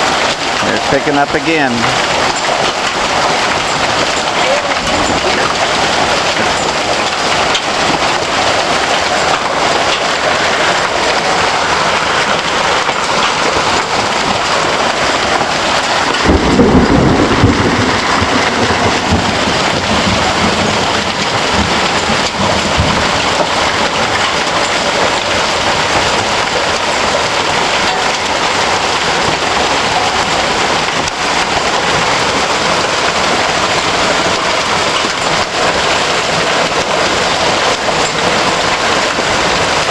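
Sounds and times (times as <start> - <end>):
hail and heavy rain pelting: 0.0 - 39.9
thunder rumbling: 0.0 - 39.9.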